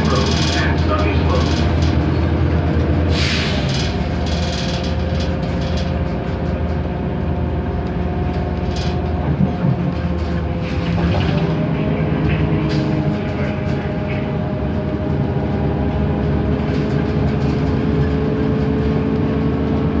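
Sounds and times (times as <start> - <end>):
bus engine running: 0.0 - 20.0
road noise: 0.0 - 20.0.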